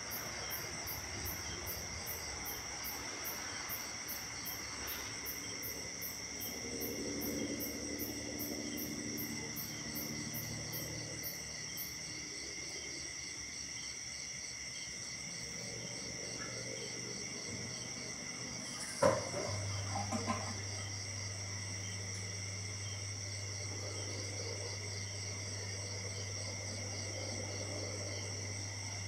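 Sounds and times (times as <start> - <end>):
crickets and insects trilling: 0.0 - 29.0.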